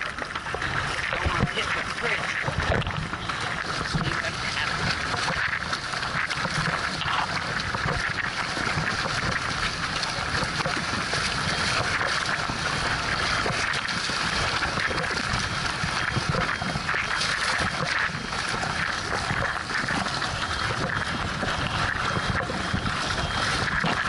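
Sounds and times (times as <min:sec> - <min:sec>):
water splashing along hull: 0:00.0 - 0:24.0
wind buffeting microphone: 0:00.0 - 0:24.0.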